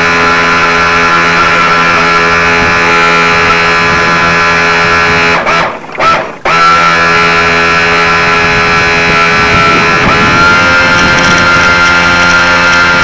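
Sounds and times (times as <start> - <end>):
model speedboat motor running: 0.0 - 13.0.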